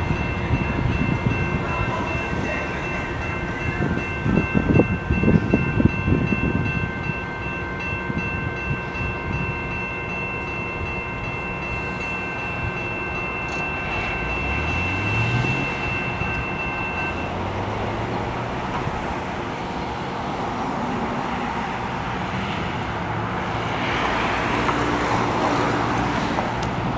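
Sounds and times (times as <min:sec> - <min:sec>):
diesel locomotive engine whine: 0:00.0 - 0:26.9.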